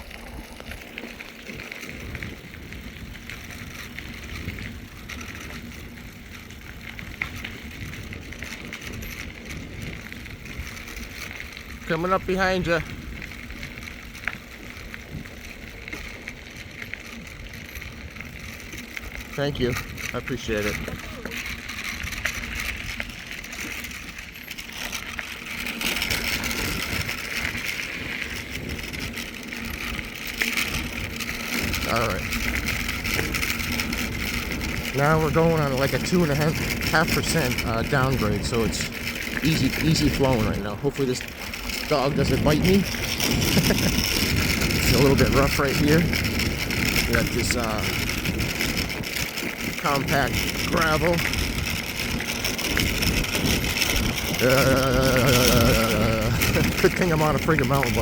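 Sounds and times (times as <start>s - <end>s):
bike tyres rolling on trail: 0.0s - 58.0s
wind rush on microphone: 0.0s - 58.0s.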